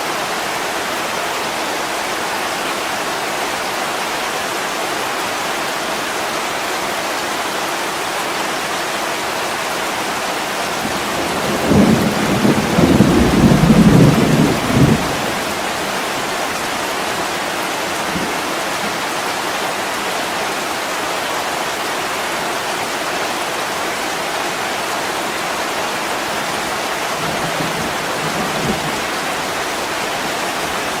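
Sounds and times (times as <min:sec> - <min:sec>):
heavy rain on a window: 0:00.0 - 0:31.0.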